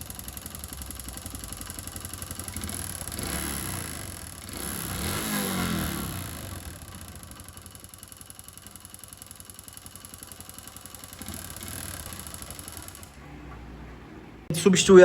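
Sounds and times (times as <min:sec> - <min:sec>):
engine knocking: 0:00.0 - 0:13.2
small engine revving and idling: 0:00.0 - 0:14.5.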